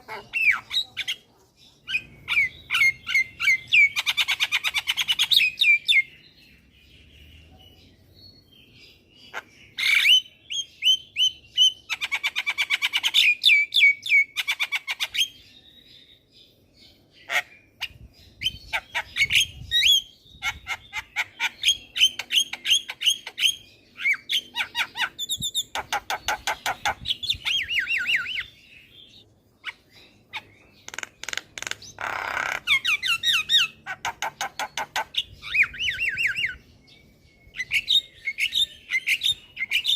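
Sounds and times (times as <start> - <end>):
bird chattering and whistling: 0.0 - 6.2, 9.3 - 15.4, 17.2 - 36.6, 37.4 - 39.9.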